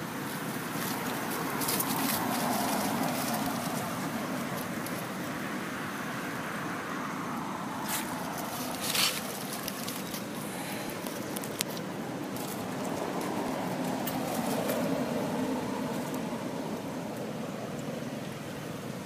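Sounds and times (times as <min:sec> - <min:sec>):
rustling of dry leaf litter: 0:00.0 - 0:18.2
outdoor rumble and hiss: 0:00.0 - 0:19.0.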